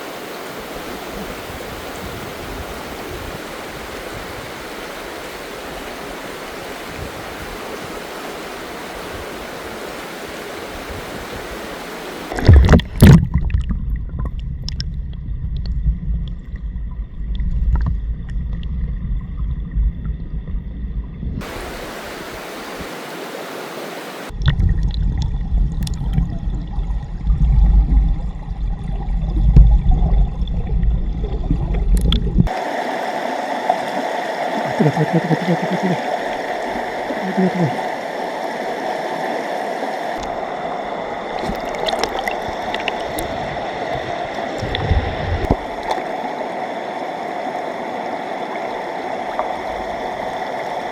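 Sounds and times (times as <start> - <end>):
stream flowing: 0.0 - 13.7, 21.4 - 26.2, 28.5 - 50.9.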